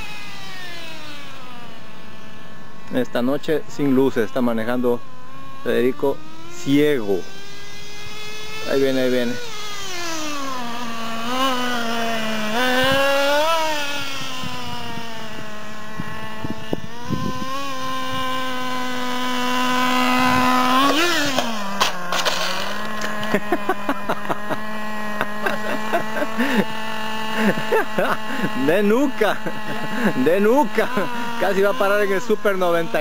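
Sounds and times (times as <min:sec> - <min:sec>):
glow engine buzzing: 0:00.0 - 0:33.0.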